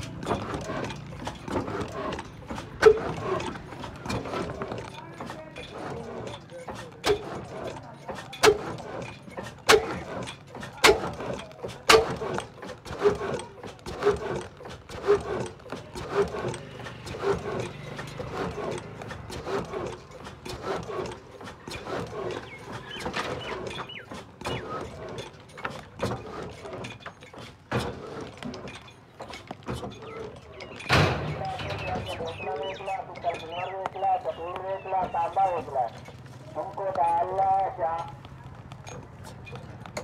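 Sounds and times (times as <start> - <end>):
diesel engine knocking: 0.0 - 40.0.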